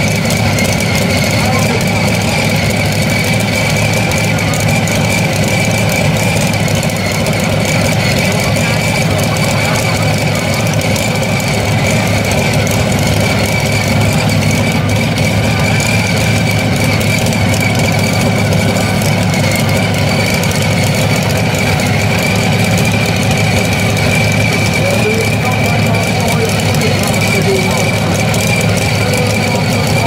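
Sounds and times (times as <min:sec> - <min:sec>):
high whine: 0:00.0 - 0:30.0
tractor engine running: 0:00.0 - 0:30.0.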